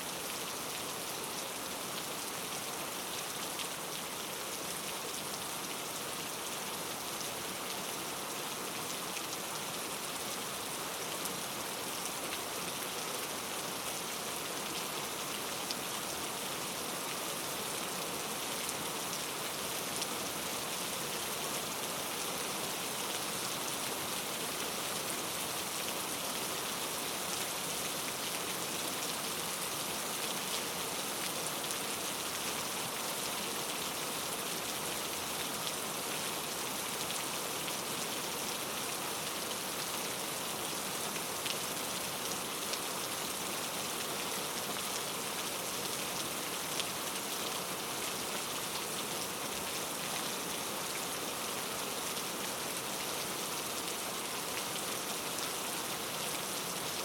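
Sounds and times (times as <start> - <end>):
rain falling: 0.1 - 57.0.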